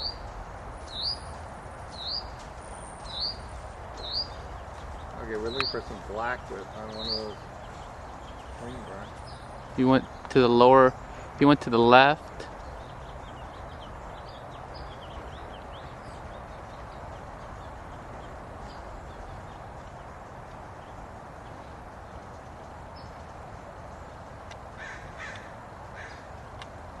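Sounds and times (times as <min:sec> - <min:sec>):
harsh bird calls: 0:00.0 - 0:26.6
small birds chirping: 0:00.0 - 0:27.0
steady outdoor hiss: 0:00.0 - 0:27.0.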